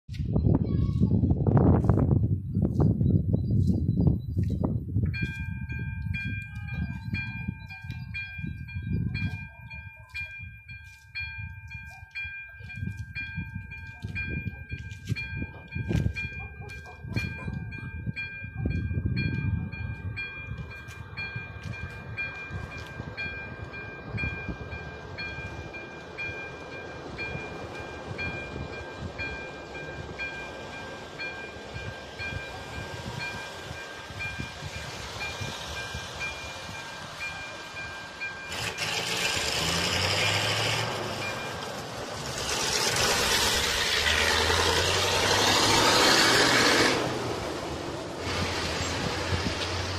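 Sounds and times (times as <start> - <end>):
train rushing rail noise: 4.4 - 49.9
level crossing warning bell: 5.0 - 49.9.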